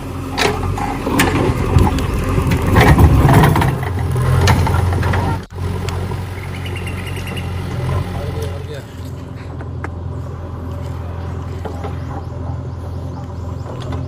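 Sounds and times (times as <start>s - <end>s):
heavy machinery engine running: 0.0s - 14.0s.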